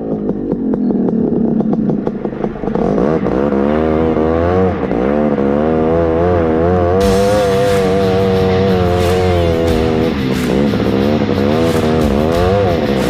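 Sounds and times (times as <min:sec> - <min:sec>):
buggy engine running under load: 0:00.0 - 0:13.0.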